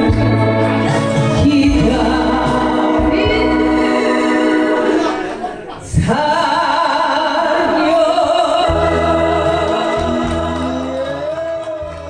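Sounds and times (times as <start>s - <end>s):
music accompaniment: 0.0s - 5.6s, 7.6s - 12.0s
woman singing with vibrato: 0.0s - 12.0s.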